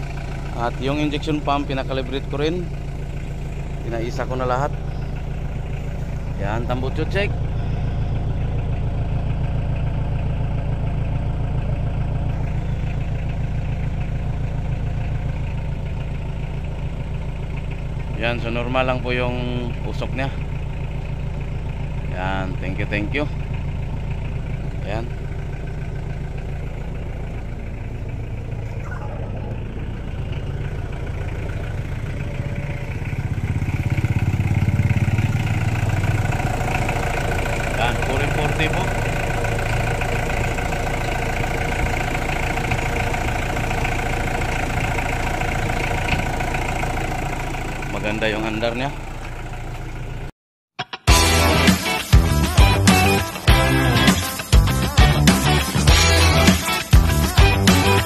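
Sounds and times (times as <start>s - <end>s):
diesel engine idling: 0.0s - 50.3s, 51.1s - 58.0s.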